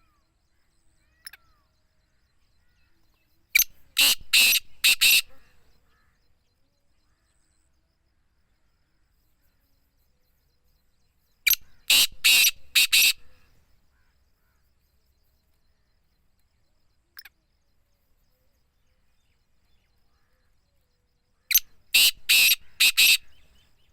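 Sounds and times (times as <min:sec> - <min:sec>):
francolin calling: 0:00.0 - 0:07.7, 0:09.3 - 0:23.9.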